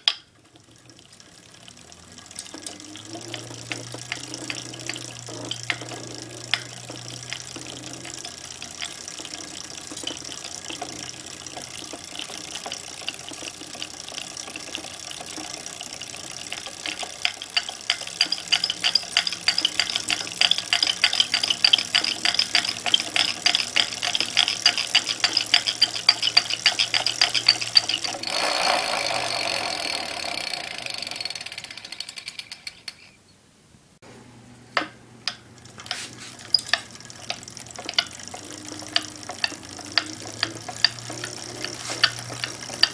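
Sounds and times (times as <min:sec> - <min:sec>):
bike drivetrain clicking: 0:00.0 - 0:33.2, 0:34.8 - 0:42.9.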